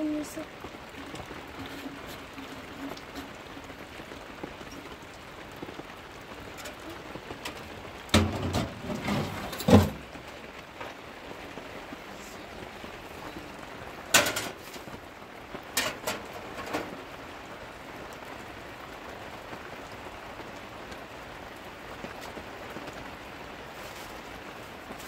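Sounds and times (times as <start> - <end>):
rain on tent fabric: 0.0 - 25.0.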